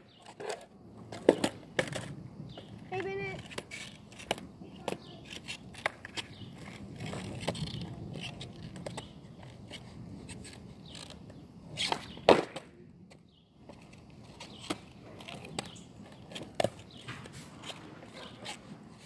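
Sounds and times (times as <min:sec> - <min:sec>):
skateboard clacking on pavement: 0:00.0 - 0:19.0
skateboard rolling rumble: 0:00.0 - 0:19.0.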